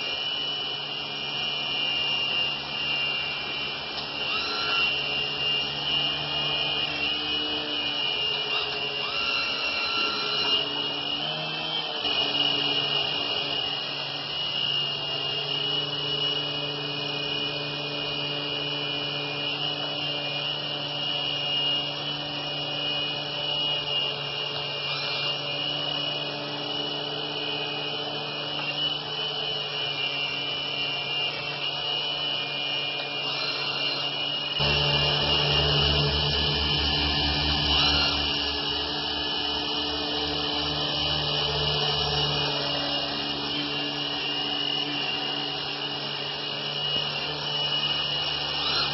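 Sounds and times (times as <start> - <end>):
rotors buzzing: 0.0 - 48.9
small electric motor whine: 0.0 - 48.9.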